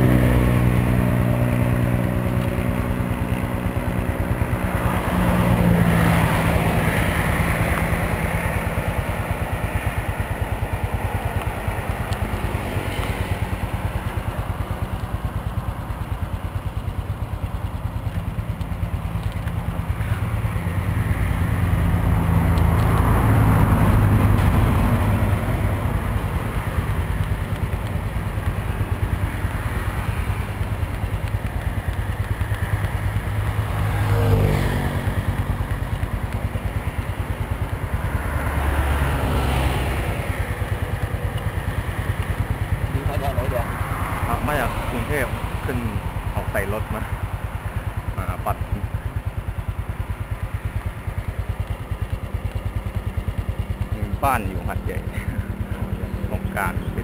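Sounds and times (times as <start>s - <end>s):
motorcycle engines running: 0.0s - 57.0s
motorcycle passing by: 0.0s - 57.0s.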